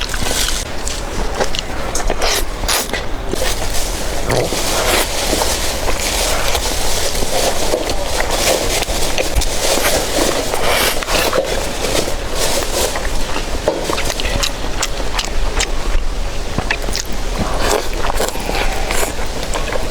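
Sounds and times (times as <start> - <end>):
chewing and crunching food: 0.0 - 19.9.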